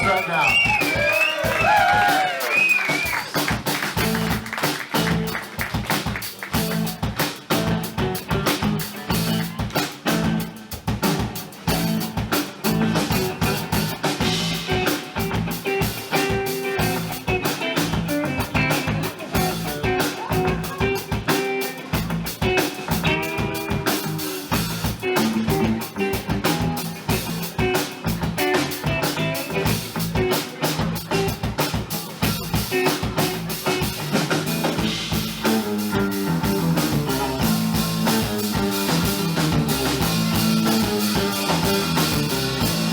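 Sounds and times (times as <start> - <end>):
drum kit beating: 0.0 - 42.9
plucked guitar: 6.5 - 42.9.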